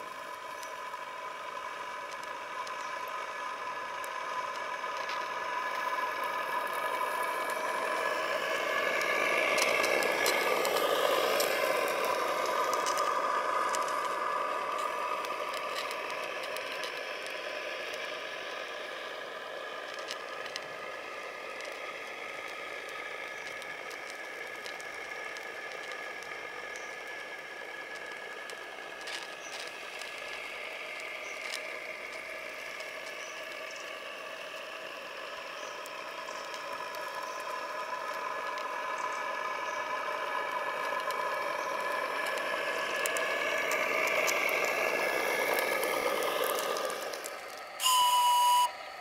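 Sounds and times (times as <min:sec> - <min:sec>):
steam boat engine running: 0:00.0 - 0:49.0.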